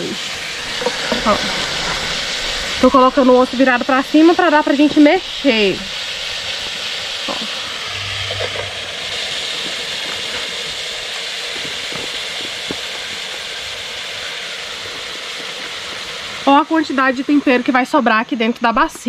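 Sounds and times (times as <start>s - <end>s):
meat sizzling in oil: 0.0s - 19.0s.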